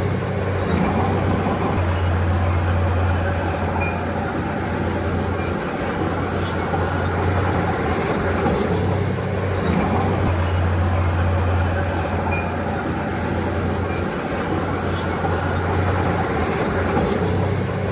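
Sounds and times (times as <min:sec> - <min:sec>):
bulldozer diesel engine droning: 0:00.0 - 0:17.9.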